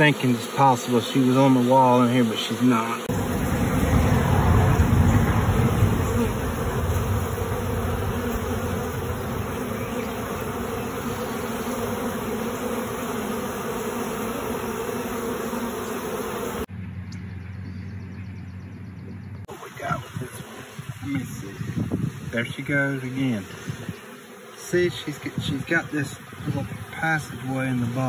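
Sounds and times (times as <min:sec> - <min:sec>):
honeybees buzzing: 0:00.0 - 0:16.7, 0:19.4 - 0:28.0.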